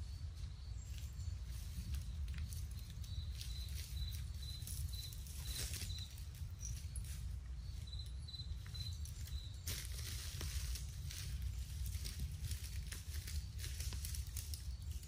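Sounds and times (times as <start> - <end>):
insect chirping: 0.0 - 15.0
rustling in dry leaves: 0.0 - 15.0.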